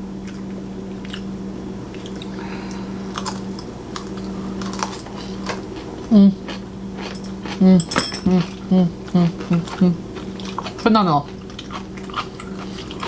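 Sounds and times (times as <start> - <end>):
steady low hum: 0.0 - 13.0
person chewing crunchy food: 0.2 - 1.3, 1.9 - 13.0.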